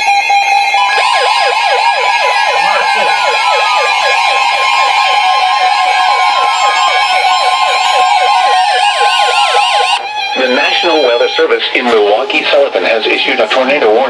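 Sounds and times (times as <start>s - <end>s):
tone sliding down in pitch: 0.0s - 12.8s
rapid siren-like warble: 0.0s - 14.0s
steady alarm tones: 0.0s - 14.0s.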